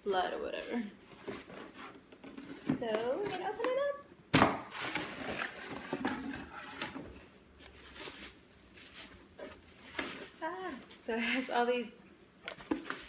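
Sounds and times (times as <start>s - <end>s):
contents rustling: 0.3s - 4.0s, 4.6s - 11.1s, 12.4s - 13.0s.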